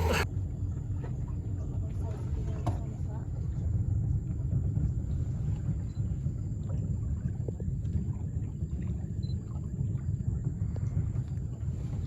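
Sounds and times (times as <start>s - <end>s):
boat motor rumble: 0.0s - 12.0s
moving water: 0.0s - 12.0s.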